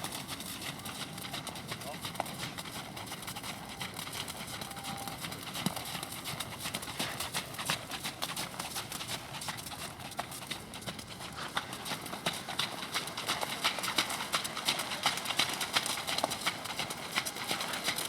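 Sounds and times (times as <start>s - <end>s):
horse hoofbeats on arena footing: 0.0s - 18.0s.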